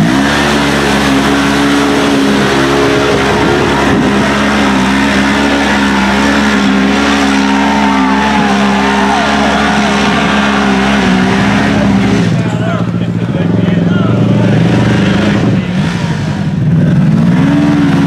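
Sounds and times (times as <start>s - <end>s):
engine at high revs: 0.0s - 18.0s.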